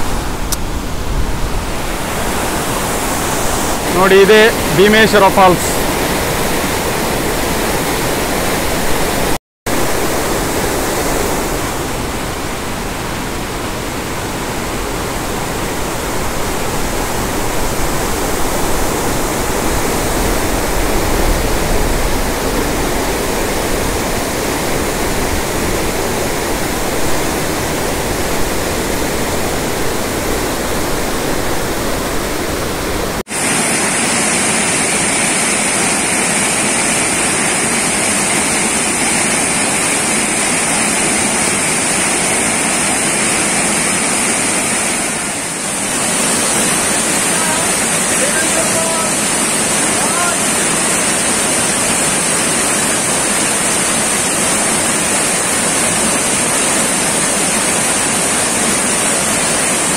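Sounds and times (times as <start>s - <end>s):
water splashing under cascade: 0.0s - 59.9s
waterfall rushing: 0.0s - 59.9s.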